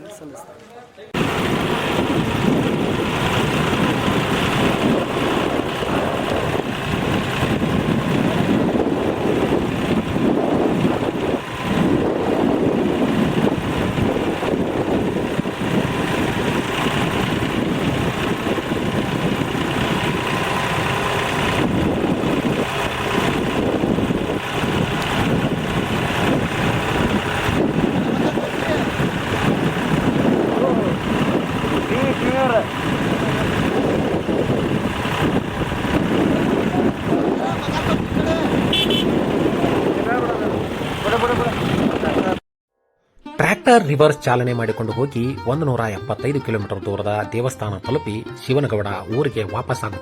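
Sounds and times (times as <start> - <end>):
tractor engine running: 1.2 - 42.4
wind rumbling on microphone: 1.2 - 42.4.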